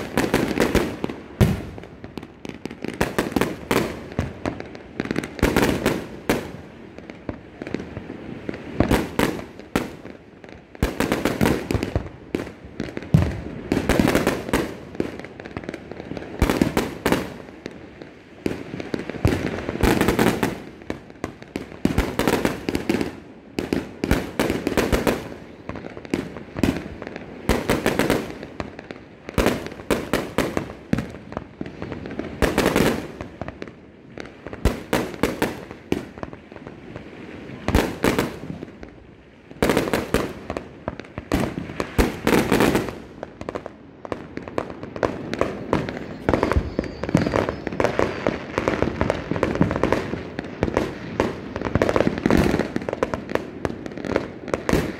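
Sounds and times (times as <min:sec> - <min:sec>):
fireworks bangs: 0:00.0 - 0:54.9
fireworks cracking and popping: 0:00.0 - 0:54.9.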